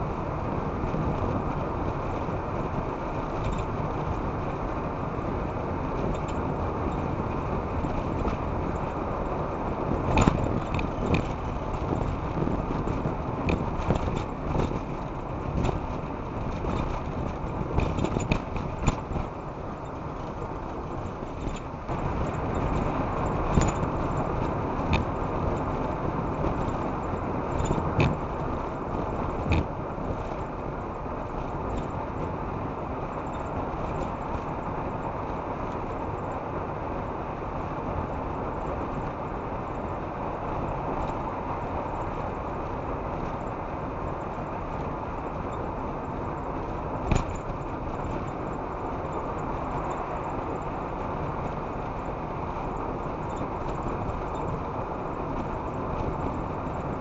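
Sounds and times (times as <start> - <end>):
road and tyre noise: 0.0 - 57.0.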